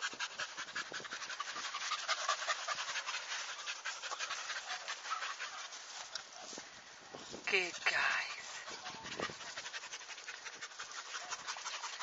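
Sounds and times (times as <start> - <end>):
dog panting: 0.0 - 6.6, 7.5 - 12.0.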